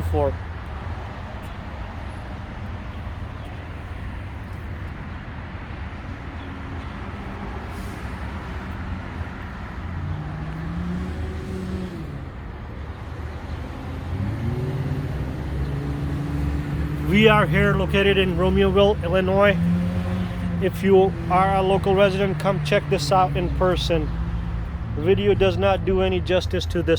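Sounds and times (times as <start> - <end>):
motorcycle engine idling and revving: 0.0 - 26.1.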